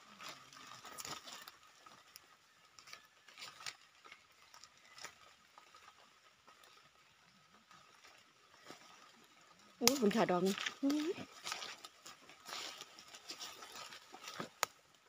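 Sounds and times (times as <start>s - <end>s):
rustling in dry leaf litter: 0.0s - 15.0s.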